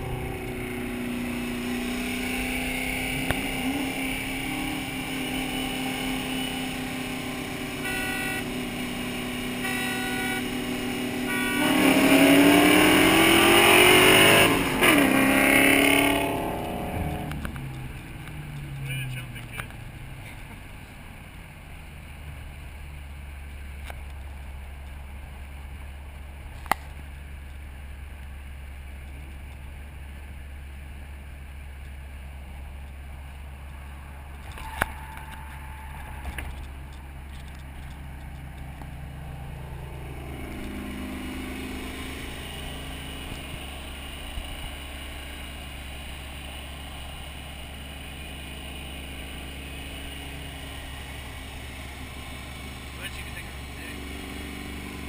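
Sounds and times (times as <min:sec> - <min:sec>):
car engine drone: 0:00.0 - 0:55.0
road noise: 0:00.0 - 0:55.0.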